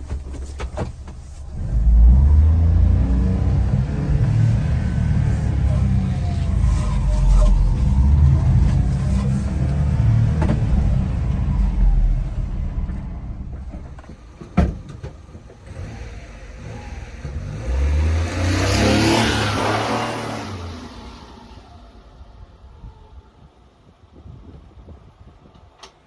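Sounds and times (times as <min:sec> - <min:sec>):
small truck engine running: 0:01.5 - 0:22.4.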